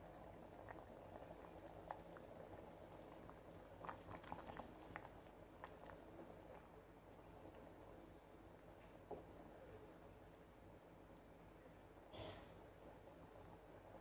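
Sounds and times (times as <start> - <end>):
liquid boiling and bubbling: 0.0 - 14.0.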